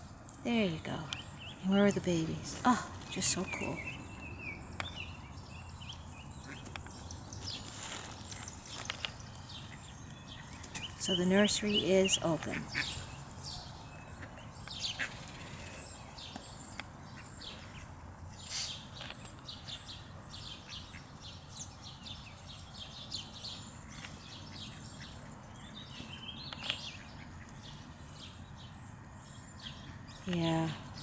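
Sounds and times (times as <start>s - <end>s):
low background hum: 0.0s - 31.0s
ducklings peeping: 0.6s - 31.0s.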